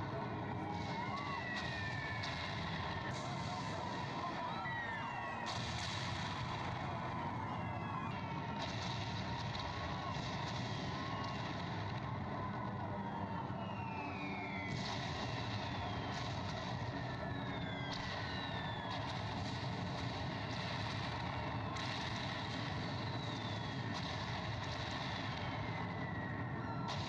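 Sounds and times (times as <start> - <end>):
wailing siren-like tones: 0.0 - 27.0.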